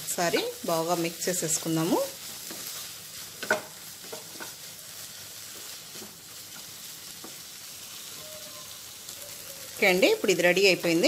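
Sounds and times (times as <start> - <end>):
frying sizzle: 0.0 - 11.0
spatula stirring food: 0.0 - 11.0.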